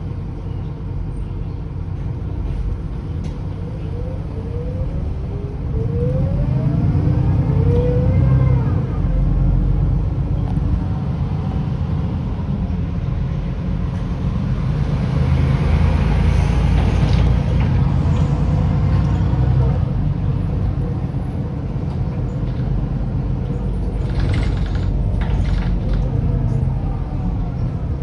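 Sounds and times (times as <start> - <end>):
diesel engine rumble: 0.0 - 28.0.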